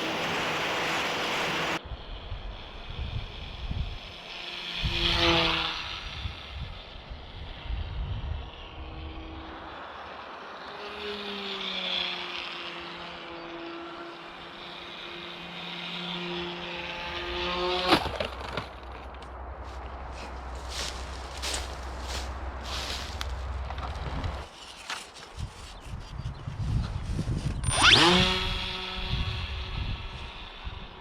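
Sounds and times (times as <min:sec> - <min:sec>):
rc plane motor buzzing: 0:00.0 - 0:18.9, 0:20.1 - 0:31.0.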